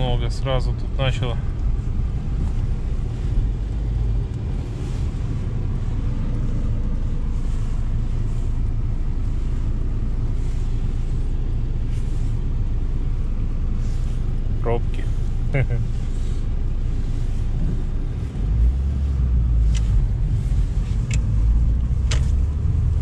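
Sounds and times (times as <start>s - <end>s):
car engine rumble in cabin: 0.0s - 23.0s
tyres on snowy road: 0.0s - 23.0s.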